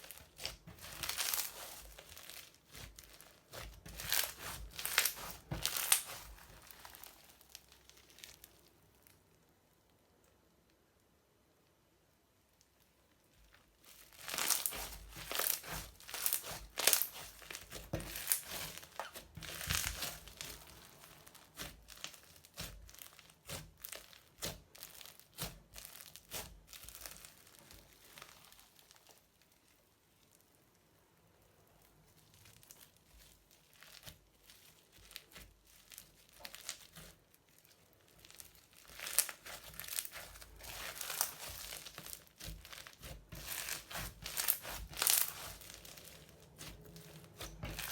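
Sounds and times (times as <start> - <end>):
crunchy slime squeezed by hand: 0.0 - 8.6, 13.8 - 29.3, 32.2 - 47.9.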